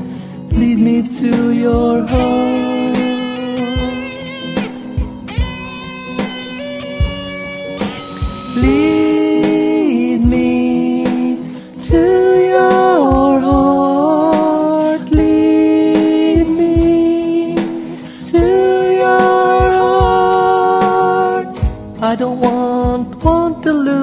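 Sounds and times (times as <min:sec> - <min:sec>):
slow pop love song: 0:00.0 - 0:24.0.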